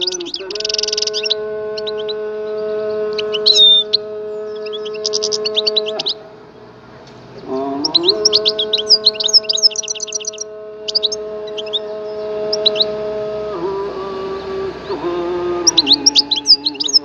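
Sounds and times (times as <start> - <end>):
droning background music: 0.0 - 7.6, 8.2 - 17.0
finch twittering chirps and trills: 0.0 - 13.2, 14.2 - 17.0.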